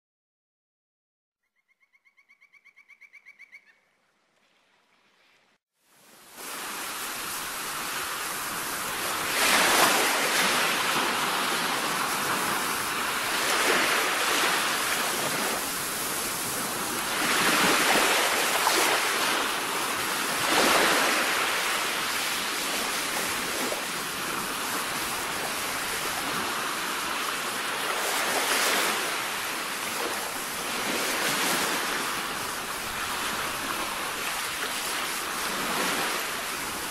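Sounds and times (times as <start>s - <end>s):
ocean waves breaking: 6.0s - 36.9s.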